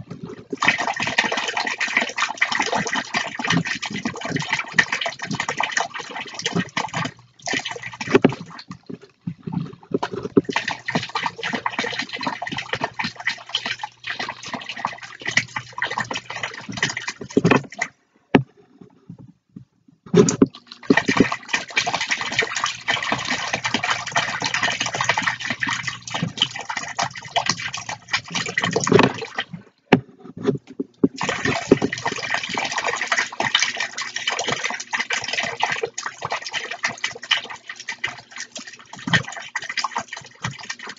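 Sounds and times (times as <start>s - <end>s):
fountain water splashing into tub: 0.0s - 8.9s, 10.0s - 17.9s, 20.5s - 29.6s, 31.1s - 40.9s.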